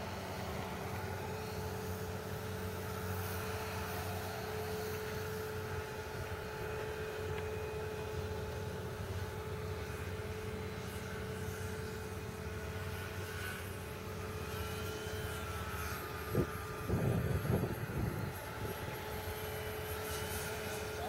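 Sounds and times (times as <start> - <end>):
electric model plane motor whine: 0.0 - 21.0.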